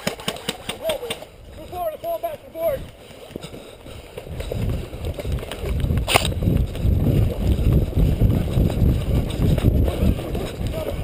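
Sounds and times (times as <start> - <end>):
running footsteps on dirt: 0.0 - 11.0
wind buffeting microphone: 0.7 - 11.0.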